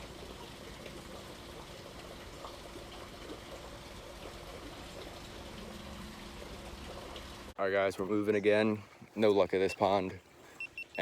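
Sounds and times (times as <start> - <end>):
water rushing and trickling: 0.0 - 11.0.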